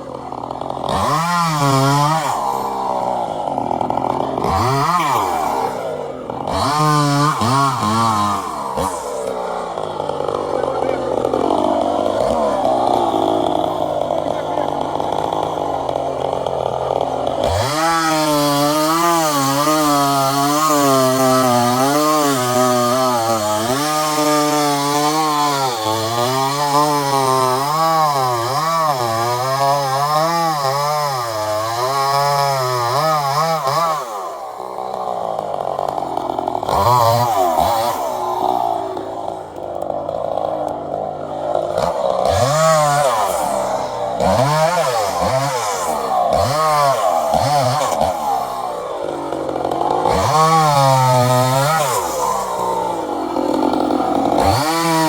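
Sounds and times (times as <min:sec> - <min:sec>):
chainsaw cutting wood: 0:00.0 - 0:55.0
chainsaw revving: 0:00.0 - 0:55.0.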